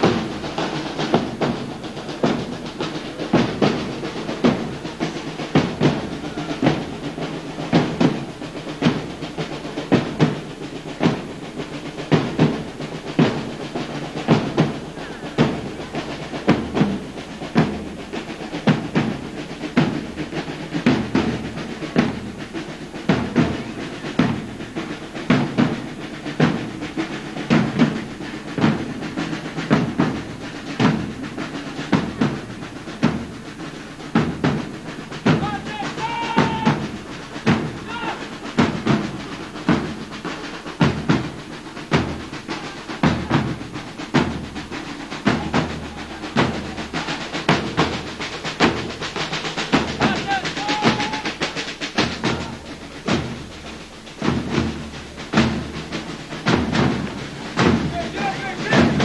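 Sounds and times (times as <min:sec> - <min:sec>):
snare drum rolls: 0:00.0 - 0:59.0.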